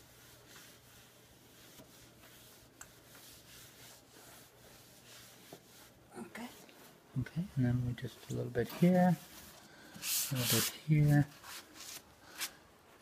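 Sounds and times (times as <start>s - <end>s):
cloth wiping wooden floor: 0.0s - 7.0s, 7.6s - 12.6s.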